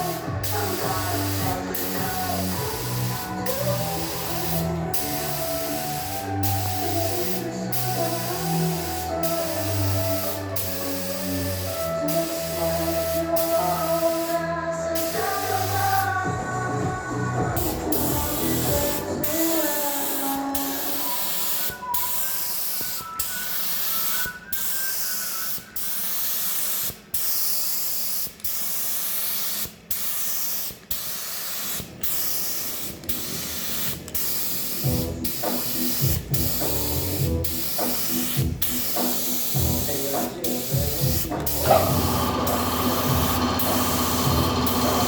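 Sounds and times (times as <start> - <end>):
paint spray hiss: 0.0 - 16.2, 17.6 - 45.0
music: 0.0 - 27.0, 31.7 - 45.0.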